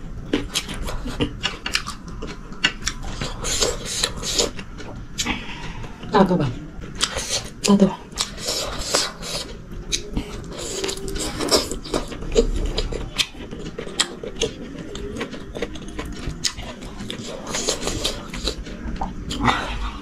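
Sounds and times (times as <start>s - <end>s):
chewing and mouth smacks: 0.3s - 5.4s, 7.0s - 20.0s.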